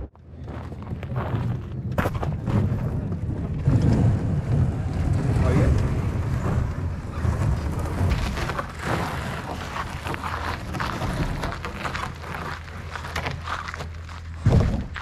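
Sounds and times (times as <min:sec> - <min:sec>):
scraping and rustling: 0:02.3 - 0:15.0.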